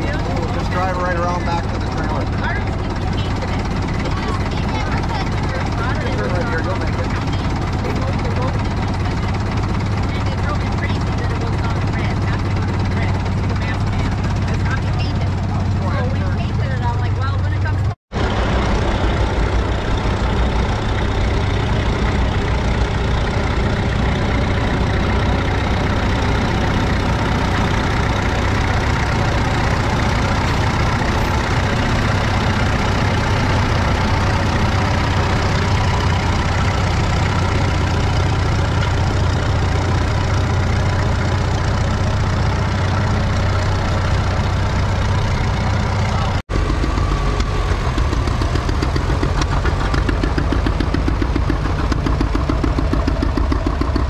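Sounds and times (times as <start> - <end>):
second tractor engine running: 0.0 - 54.0
tractor engine running: 0.0 - 54.0.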